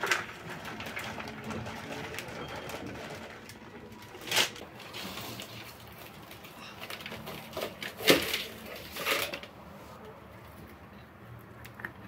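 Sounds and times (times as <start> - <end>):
plastic bag rustling: 0.0 - 10.1.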